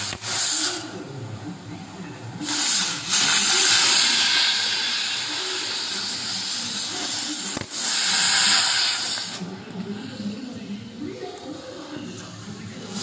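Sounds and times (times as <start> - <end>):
cutting torch hissing: 0.0 - 1.1, 2.3 - 13.0.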